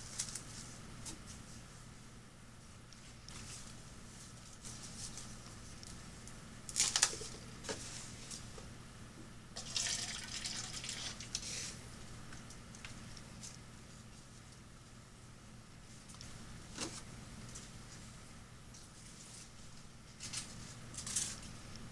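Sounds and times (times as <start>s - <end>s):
steady low hum: 0.0s - 9.6s, 11.0s - 21.9s.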